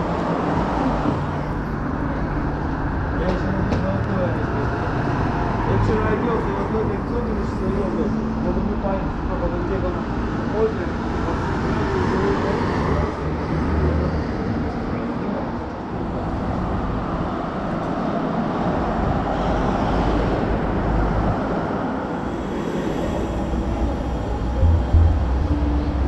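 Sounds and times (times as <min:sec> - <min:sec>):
cars and trucks passing: 0:00.0 - 0:26.0.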